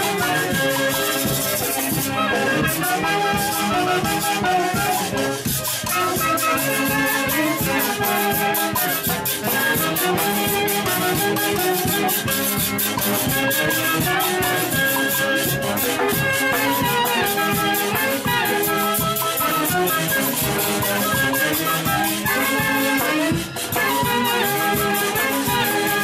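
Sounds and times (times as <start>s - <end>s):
congas and timbales beat: 0.0s - 26.0s
saxophones and clarinets melody: 0.0s - 26.0s.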